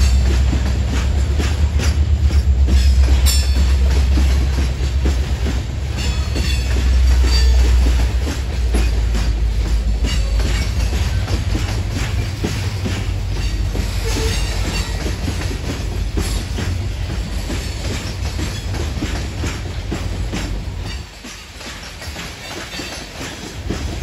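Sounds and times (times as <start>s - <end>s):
hopper cars rolling rumble: 0.0s - 24.0s
wheels clicking over rail joints: 0.0s - 24.0s.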